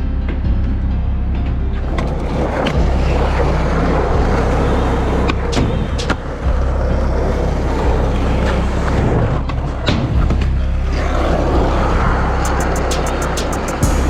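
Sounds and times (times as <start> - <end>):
skateboard wheels rolling on concrete: 1.7 - 14.0
skateboard clacks: 1.9 - 13.8.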